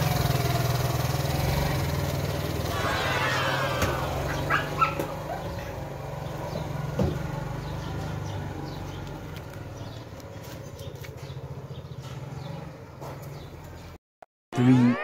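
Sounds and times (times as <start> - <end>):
scooter engine riding away: 0.0 - 14.0.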